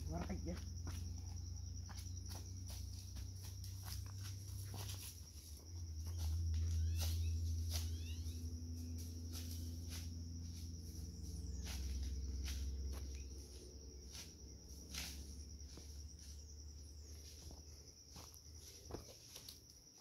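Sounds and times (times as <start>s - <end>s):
footsteps: 0.0s - 8.0s, 9.0s - 20.0s
high-pitched insect trill: 0.0s - 20.0s.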